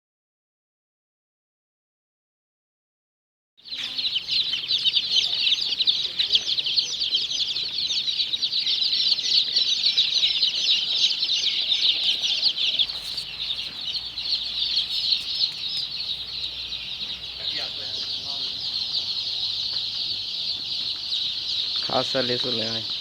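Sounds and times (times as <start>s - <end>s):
chicks peeping: 3.6s - 23.0s.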